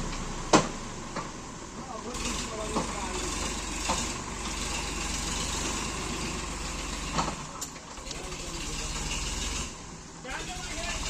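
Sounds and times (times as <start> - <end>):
diesel engine throbbing: 0.0 - 11.0.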